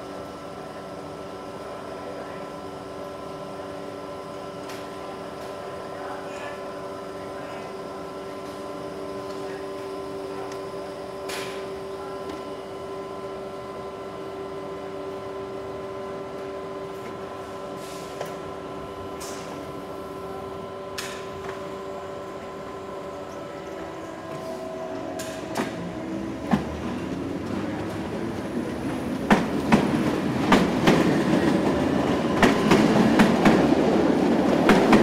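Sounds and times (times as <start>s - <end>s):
electric train hum: 0.0s - 35.0s.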